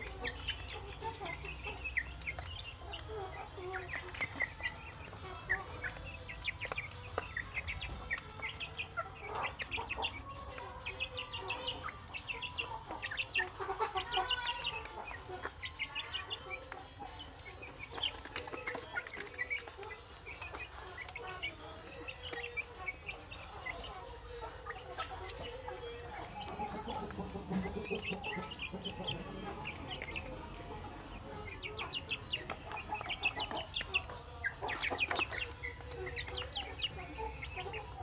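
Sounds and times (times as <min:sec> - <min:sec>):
chicks clucking: 0:00.0 - 0:38.0
chicks peeping: 0:00.0 - 0:38.0.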